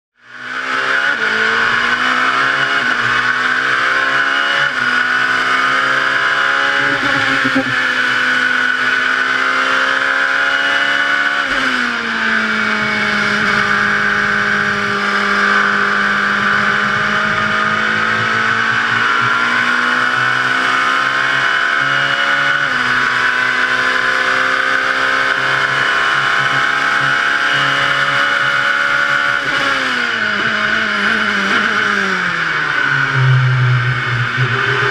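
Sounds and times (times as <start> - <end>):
race car engine revving: 0.2 - 34.9.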